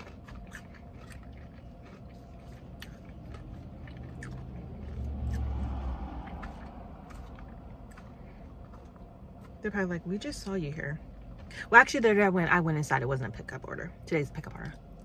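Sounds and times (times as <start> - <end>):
chewing with crunches: 0.0 - 12.2
low vehicle rumble: 0.0 - 15.0.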